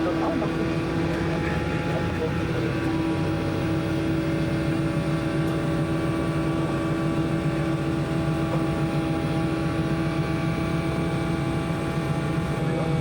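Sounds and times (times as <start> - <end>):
radial piston engines droning: 0.0 - 13.0.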